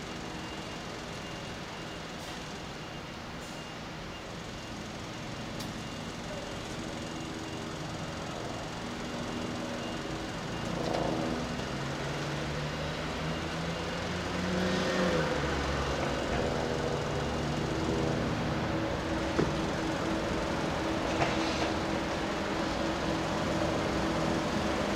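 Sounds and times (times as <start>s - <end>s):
heavy vehicle engines revving: 0.0s - 24.9s.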